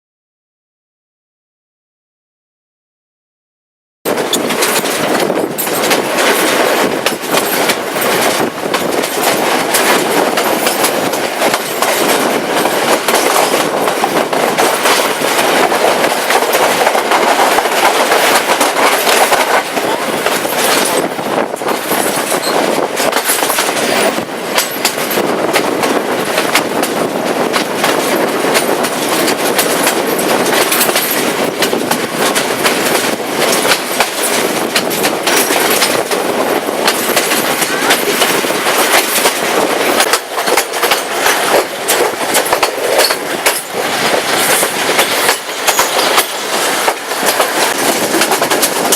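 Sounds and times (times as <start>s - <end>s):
train wheels clattering on rails: 4.1s - 48.9s.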